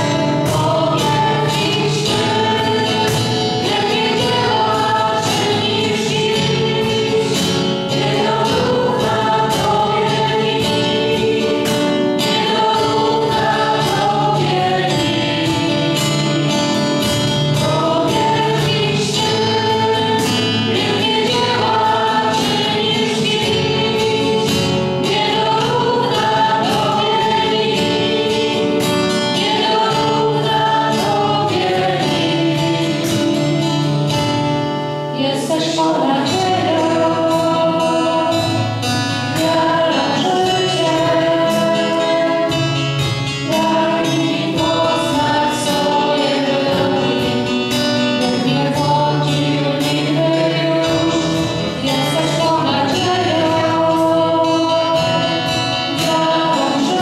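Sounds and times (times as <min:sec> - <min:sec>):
choir singing worship song: 0:00.0 - 0:57.0.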